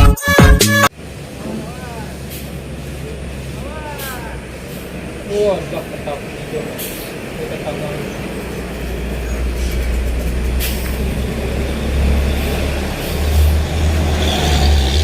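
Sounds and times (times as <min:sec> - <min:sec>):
diesel engine rumbling uphill: 0:00.0 - 0:15.0.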